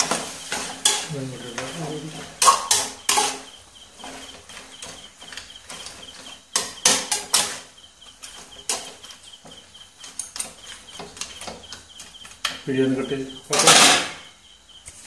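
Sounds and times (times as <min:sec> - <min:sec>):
spatula scraping a pan: 0:00.0 - 0:14.2.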